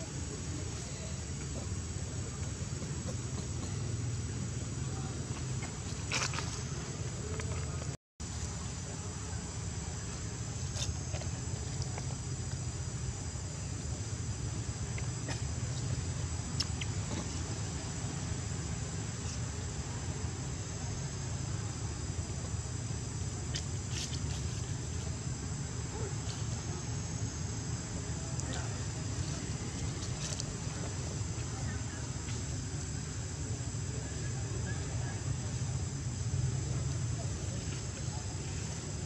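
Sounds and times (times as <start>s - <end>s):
high insect drone: 0.0s - 39.0s.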